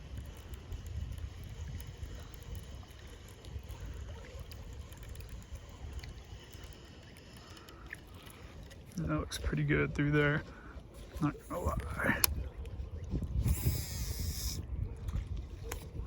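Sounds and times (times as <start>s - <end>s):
wind buffeting microphone: 0.0s - 7.4s, 8.1s - 16.0s.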